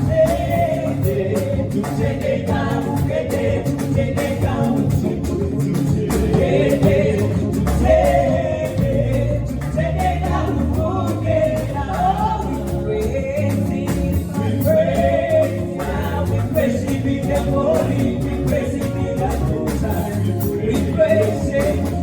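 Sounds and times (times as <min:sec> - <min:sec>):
gospel song with band: 0:00.0 - 0:22.0.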